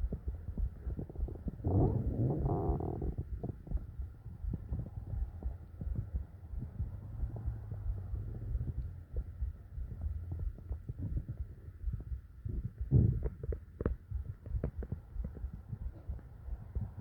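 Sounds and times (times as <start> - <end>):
low throbbing heartbeat: 0.0 - 17.0
stomach gurgles: 0.0 - 17.0.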